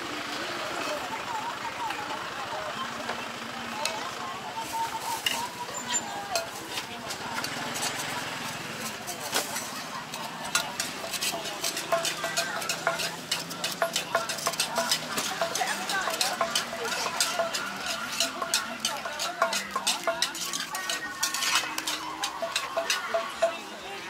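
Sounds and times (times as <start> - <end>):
metal spatula scraping a pan: 4.6 - 23.9.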